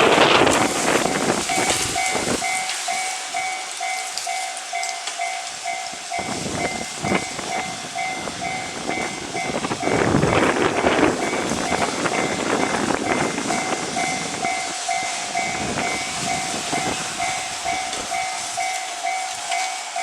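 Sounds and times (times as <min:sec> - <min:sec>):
train rumble: 0:00.0 - 0:20.0
level crossing two-tone bell: 0:01.1 - 0:10.1, 0:11.2 - 0:20.0.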